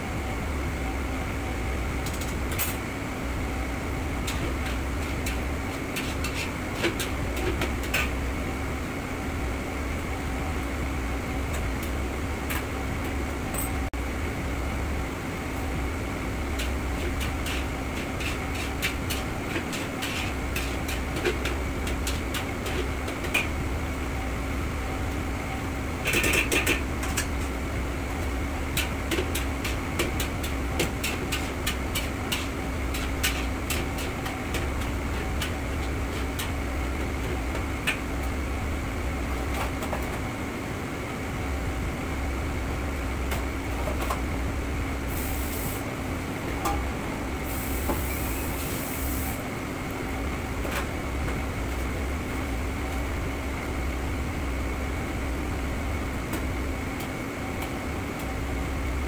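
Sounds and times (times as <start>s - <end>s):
kitchen ventilation drone: 0.0s - 59.0s.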